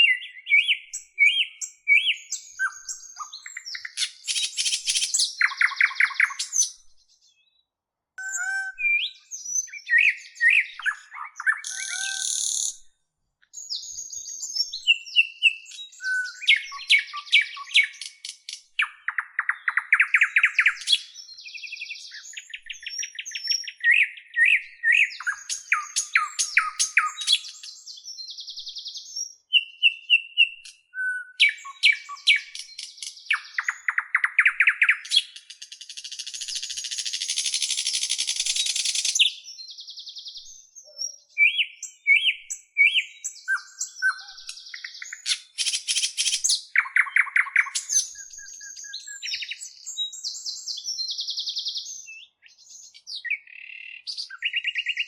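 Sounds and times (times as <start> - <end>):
songbird singing trills: 0.0 - 7.6, 8.2 - 12.9, 13.5 - 55.0.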